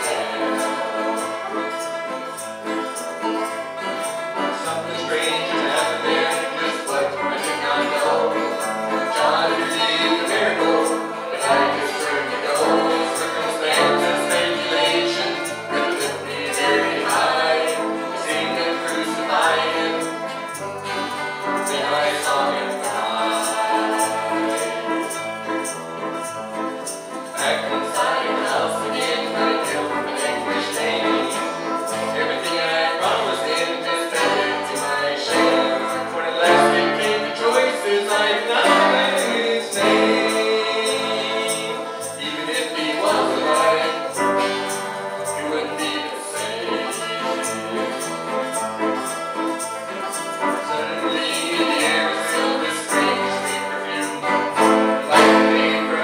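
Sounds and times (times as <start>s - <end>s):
banjo: 0.0s - 56.0s
guitars: 0.0s - 56.0s
people singing in harmony: 0.0s - 56.0s
piano: 0.0s - 56.0s.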